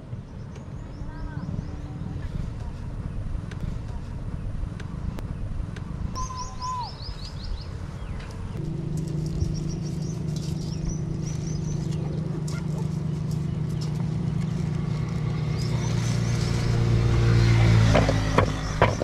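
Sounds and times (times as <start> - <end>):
low rumble: 0.0 - 19.0
steady low hum: 0.0 - 19.0
small birds chirping: 0.1 - 4.5, 6.2 - 19.0.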